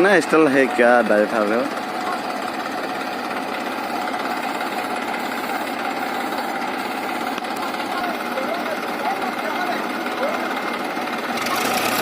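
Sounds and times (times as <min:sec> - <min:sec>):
tractor diesel engine knocking: 0:00.0 - 0:12.0.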